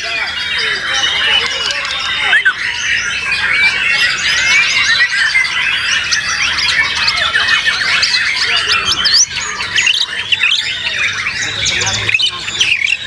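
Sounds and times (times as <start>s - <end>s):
many songbirds singing: 0.0s - 13.0s.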